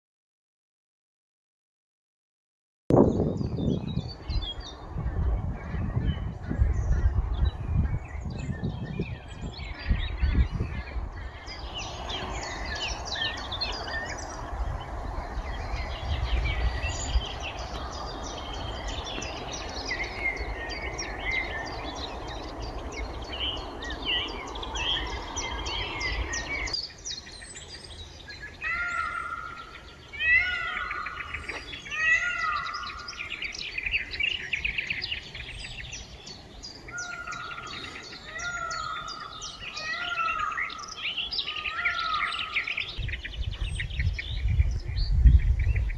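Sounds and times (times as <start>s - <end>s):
songbirds singing and chirping: 2.9s - 45.9s.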